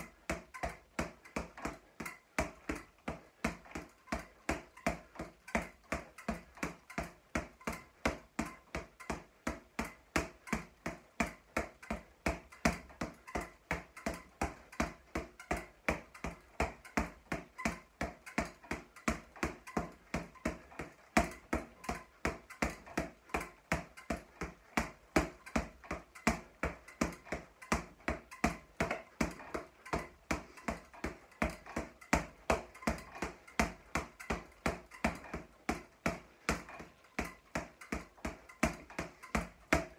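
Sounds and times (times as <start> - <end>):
boxing gloves hitting a punch ball: 0.0 - 39.9.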